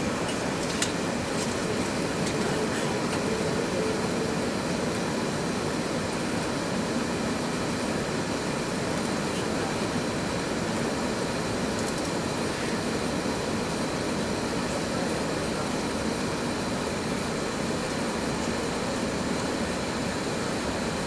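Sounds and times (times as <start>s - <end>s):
jet engines at taxi power: 0.0s - 21.0s.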